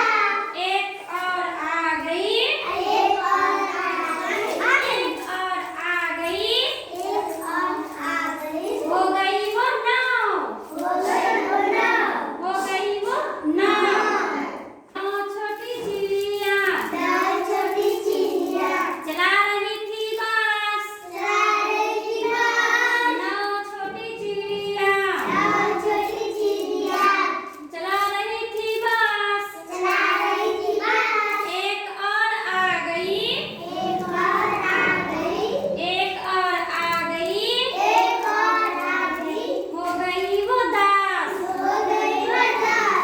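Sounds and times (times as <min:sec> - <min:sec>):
child singing unaccompanied: 0:00.0 - 0:09.6, 0:15.8 - 0:43.0.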